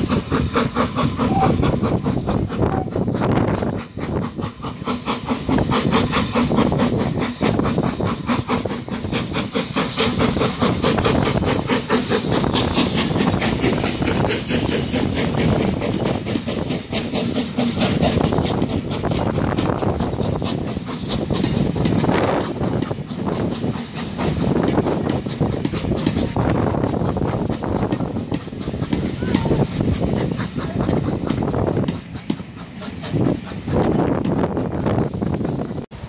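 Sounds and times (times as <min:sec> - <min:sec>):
steam hissing: 0:00.0 - 0:36.0
steam locomotive exhaust beats: 0:00.0 - 0:36.0.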